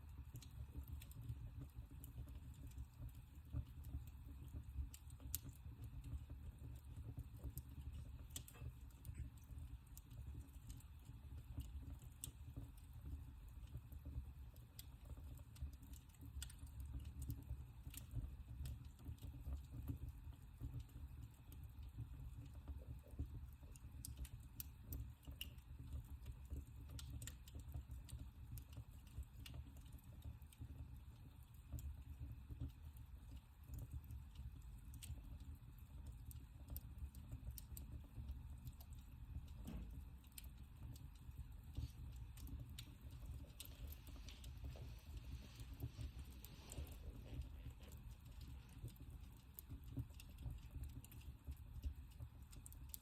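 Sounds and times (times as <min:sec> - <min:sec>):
fire crackles and pops: 0:00.0 - 0:53.0
low rumble of flames: 0:00.0 - 0:53.0.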